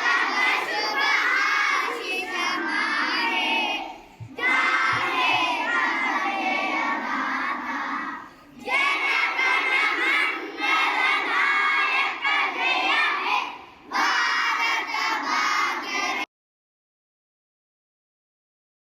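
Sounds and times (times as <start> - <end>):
children singing in unison: 0.0 - 16.3.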